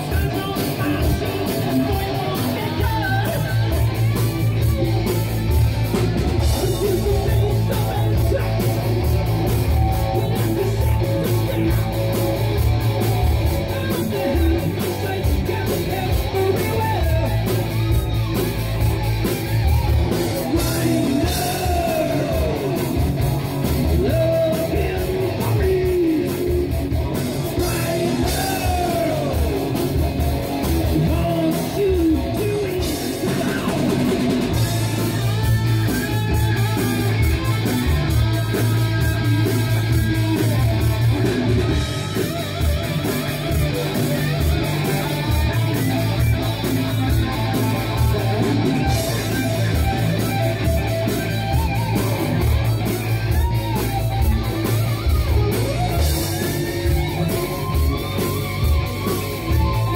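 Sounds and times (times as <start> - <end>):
bending guitar melody line: 0.0 - 59.9
heavy metal band playing live: 0.0 - 59.9.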